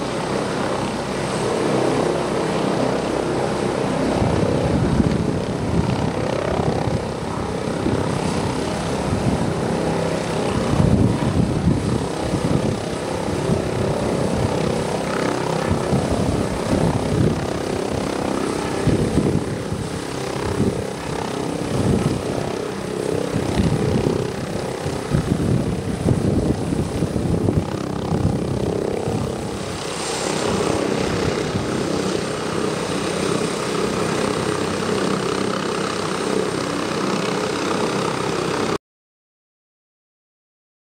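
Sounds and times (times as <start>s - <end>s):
helicopter rotor chopping: 0.0s - 38.8s.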